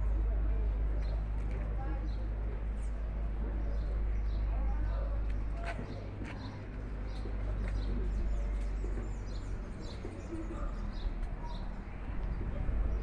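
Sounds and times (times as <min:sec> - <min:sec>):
steady low rumble: 0:00.0 - 0:13.0
birds chirping: 0:00.2 - 0:13.0.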